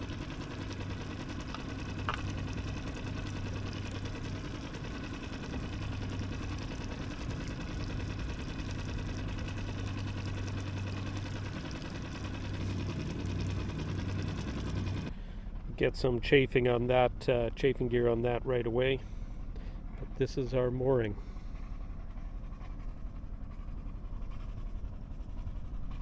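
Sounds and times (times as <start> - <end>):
boat engine running at low speed: 0.0 - 26.0.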